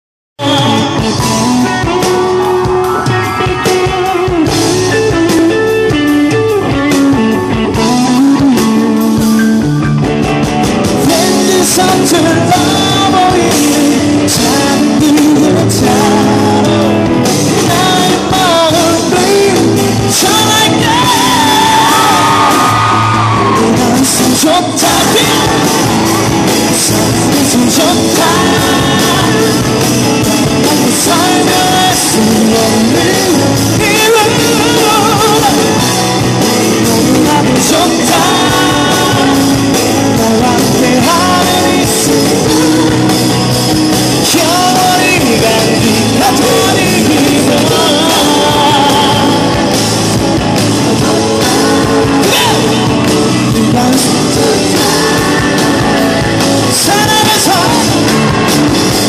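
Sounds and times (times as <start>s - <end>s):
man singing lead vocal: 0.4s - 9.9s, 10.8s - 59.0s
drum kit: 0.4s - 59.0s
electric guitars: 0.4s - 59.0s.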